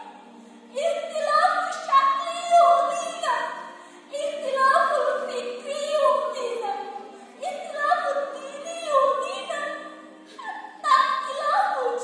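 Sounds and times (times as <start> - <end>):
woman singing ornamented melody: 0.7 - 12.0.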